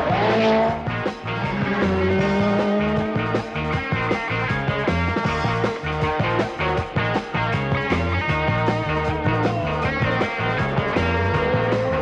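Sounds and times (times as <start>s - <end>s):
rock music with steady beat: 0.0s - 12.0s.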